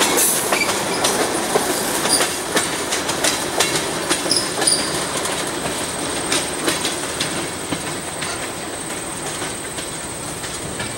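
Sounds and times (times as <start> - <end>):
wheels clicking over rail joints: 0.0 - 10.9.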